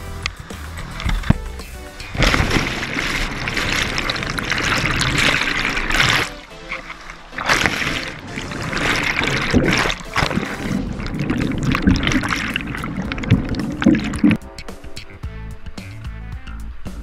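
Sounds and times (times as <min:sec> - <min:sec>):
whitewater rushing: 0:00.0 - 0:15.0
water thumping camera: 0:00.0 - 0:15.7
music: 0:00.0 - 0:17.0.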